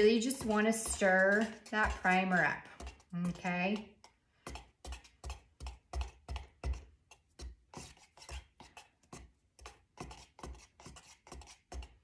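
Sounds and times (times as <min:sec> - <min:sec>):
stick stirring paint in metal can: 0:00.0 - 0:12.0.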